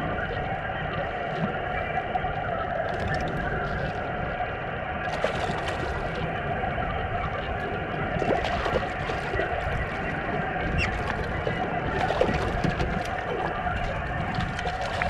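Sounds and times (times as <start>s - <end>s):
water lapping against a hull: 0.0s - 15.0s.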